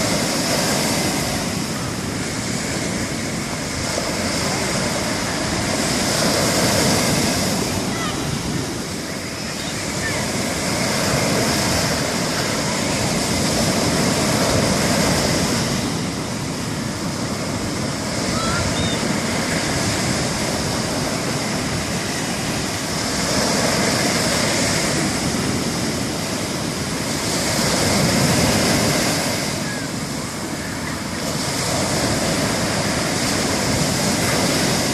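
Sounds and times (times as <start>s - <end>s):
ocean surf breaking: 0.0s - 34.9s.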